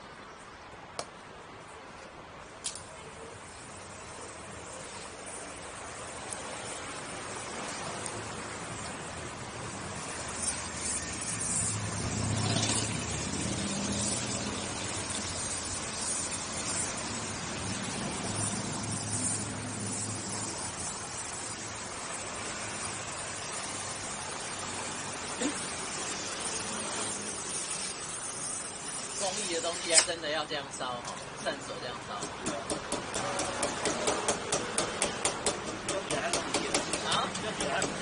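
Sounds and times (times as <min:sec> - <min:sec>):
vehicles passing: 0:00.0 - 0:38.0
welding torch hissing: 0:02.7 - 0:38.0.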